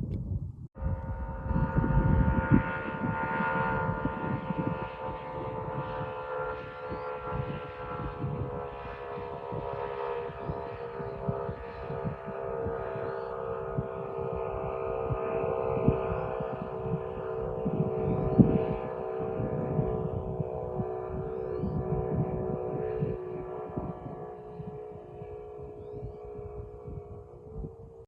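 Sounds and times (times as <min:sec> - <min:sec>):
wind rumbling on microphone: 0:00.0 - 0:28.0
engine droning: 0:00.7 - 0:28.0.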